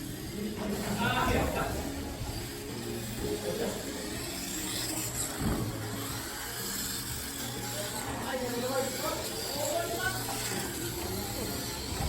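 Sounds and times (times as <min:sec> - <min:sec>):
electric motors humming: 0:00.0 - 0:12.0.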